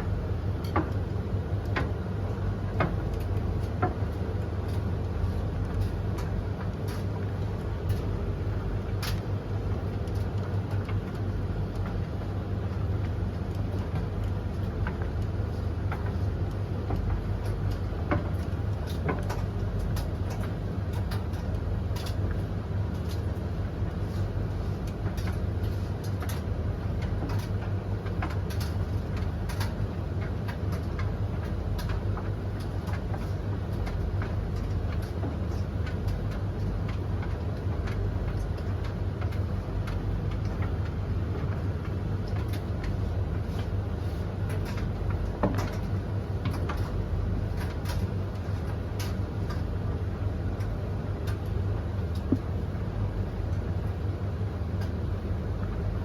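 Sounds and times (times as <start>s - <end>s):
laundry tumbling clicks and knocks: 0.0s - 56.0s
tumble dryers droning: 0.0s - 56.0s.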